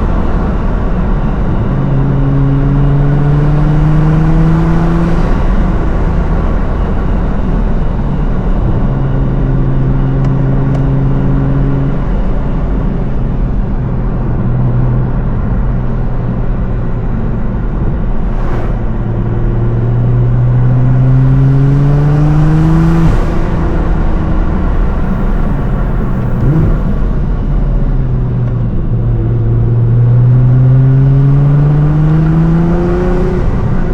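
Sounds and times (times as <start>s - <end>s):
car engine revving: 0.0s - 12.5s, 13.8s - 33.9s.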